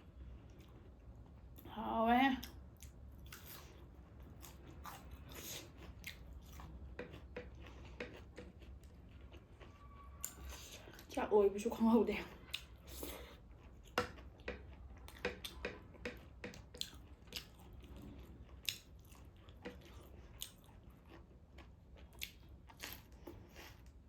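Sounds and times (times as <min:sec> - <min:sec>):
person chewing with mouth clicks: 0:02.4 - 0:11.1, 0:12.4 - 0:24.0.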